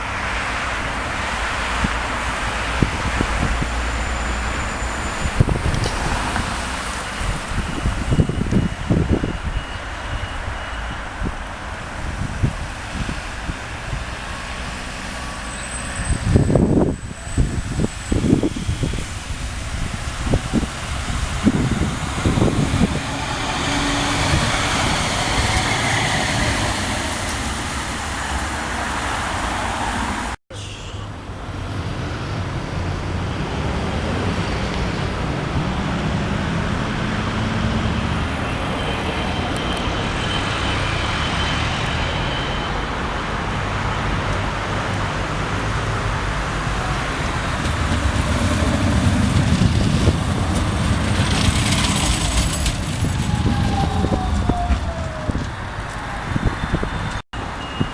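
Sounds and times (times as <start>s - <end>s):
tram rumbling past: 0.0s - 57.8s
road traffic noise: 0.0s - 57.9s.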